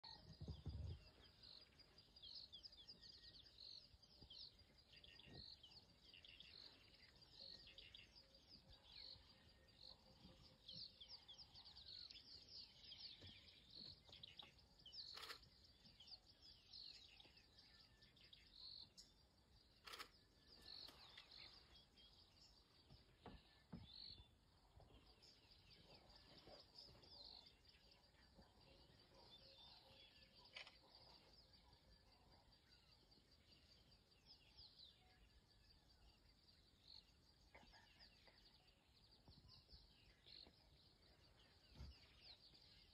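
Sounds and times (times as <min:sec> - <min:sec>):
birds chirping: 0:00.0 - 0:42.9.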